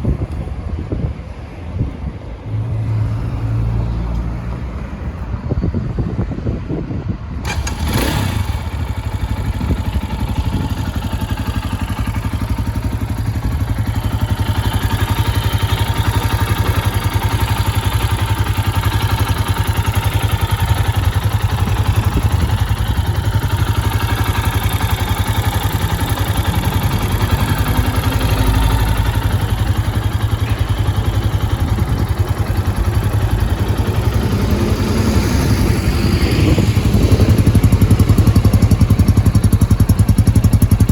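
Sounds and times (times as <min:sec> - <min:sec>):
motorcycle engine idling: 0:07.4 - 0:40.9.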